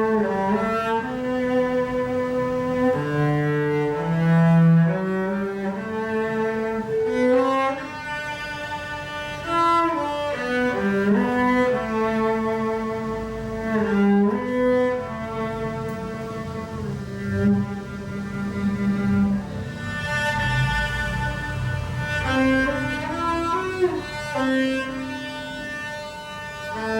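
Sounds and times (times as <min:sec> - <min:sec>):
cello playing slow melody: 0:00.0 - 0:26.9.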